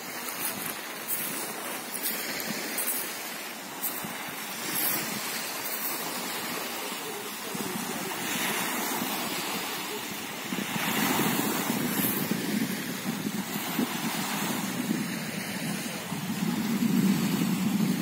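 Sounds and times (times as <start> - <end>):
small waves lapping on shore: 0.0 - 18.0
wind noise on microphone: 0.0 - 18.0.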